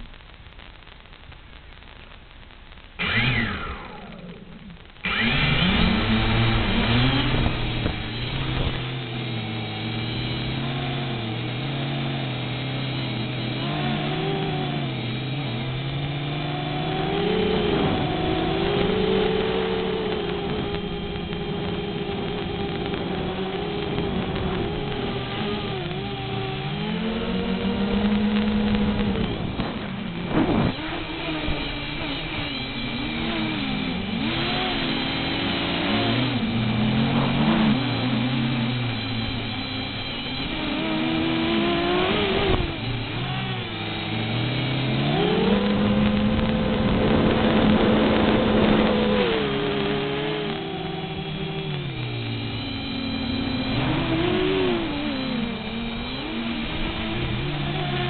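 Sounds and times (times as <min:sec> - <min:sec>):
drone propellers whining: 0:03.0 - 0:58.0.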